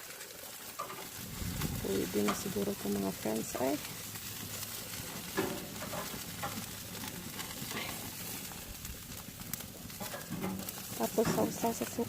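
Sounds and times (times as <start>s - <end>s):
fat dripping into fire: 0.0s - 12.0s
pork sizzling on a grill: 0.0s - 12.0s.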